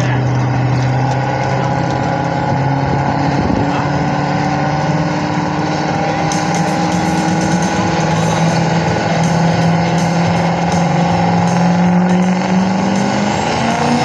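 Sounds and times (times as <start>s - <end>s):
truck engine under load: 0.0s - 14.0s.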